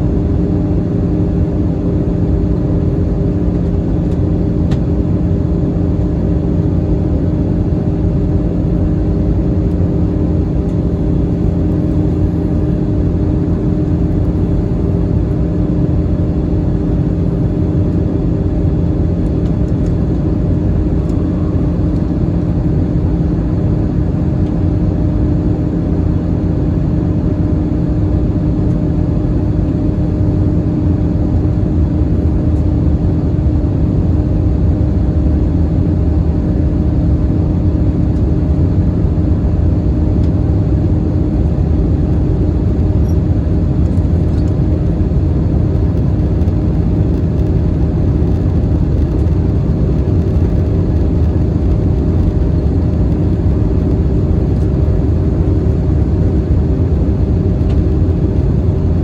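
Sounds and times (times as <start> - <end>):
airplane cabin roar in flight: 0.0 - 59.0.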